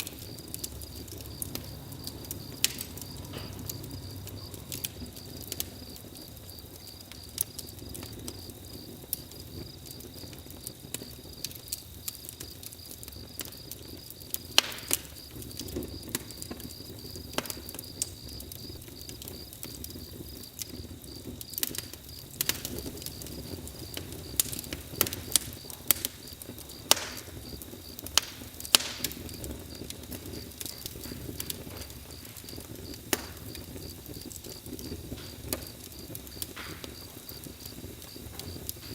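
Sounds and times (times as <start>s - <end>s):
campfire crackling: 0.0s - 38.9s
crickets chirping: 0.0s - 38.9s.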